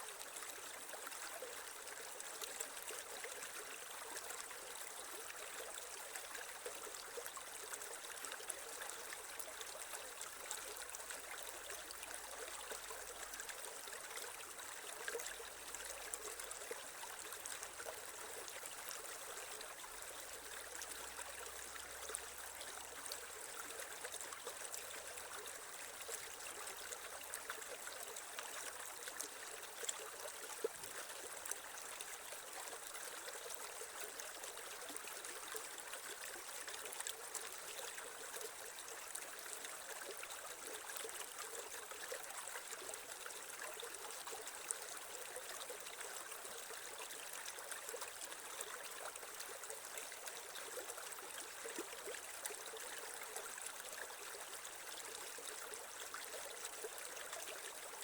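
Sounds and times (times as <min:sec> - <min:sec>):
creek water flowing over stones: 0:00.0 - 0:58.0.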